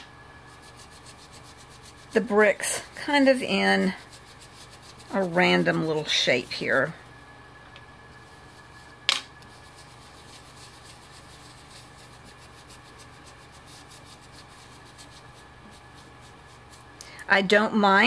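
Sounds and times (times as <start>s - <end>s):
brush rubbing through stencil: 0.4s - 7.2s, 8.1s - 17.0s.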